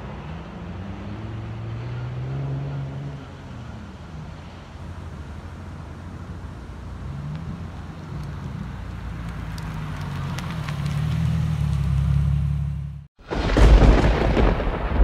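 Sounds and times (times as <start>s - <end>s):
car exhaust passing by: 0.6s - 13.1s.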